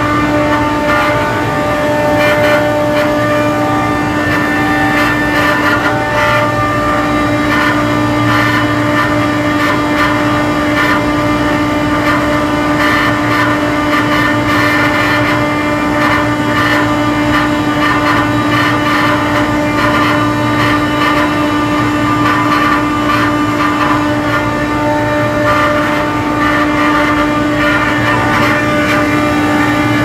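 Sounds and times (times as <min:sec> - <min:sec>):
machine humming and whining: 0:00.0 - 0:30.0.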